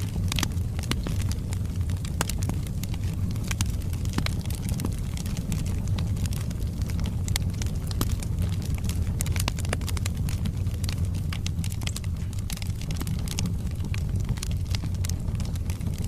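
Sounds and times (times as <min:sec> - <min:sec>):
burning logs crackling and popping: 0:00.0 - 0:16.0
fireplace fire rumbling: 0:00.0 - 0:16.0.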